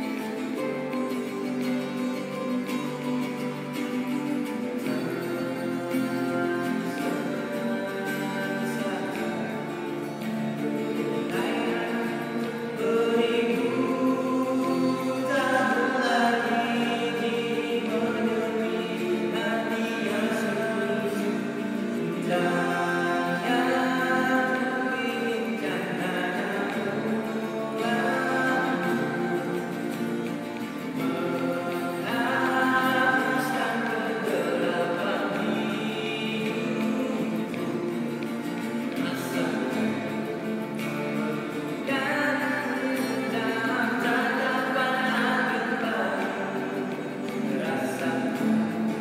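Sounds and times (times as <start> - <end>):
acoustic guitars strummed and picked: 0.0 - 49.0
man singing slow melody: 0.0 - 49.0.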